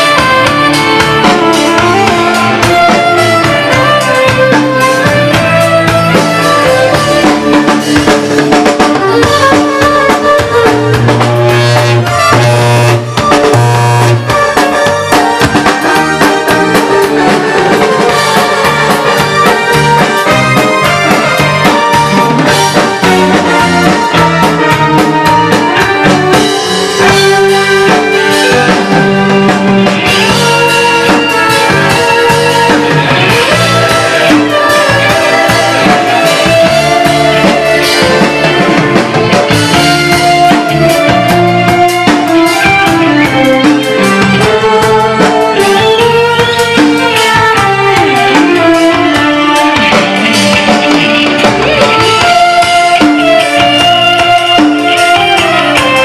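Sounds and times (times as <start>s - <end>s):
drum kit: 0.0s - 56.0s
lead melody: 0.0s - 56.0s
live band playing: 0.0s - 56.0s.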